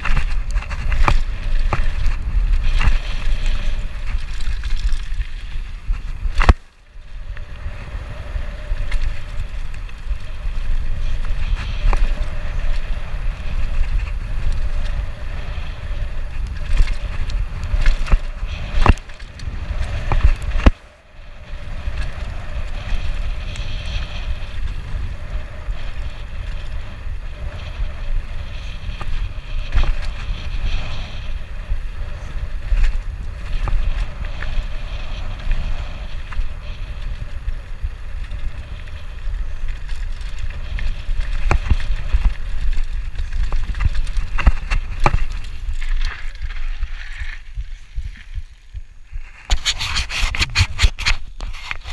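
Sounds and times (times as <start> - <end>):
bike tyres rolling over dirt: 0.0 - 51.9
wind rushing over microphone: 0.0 - 51.9.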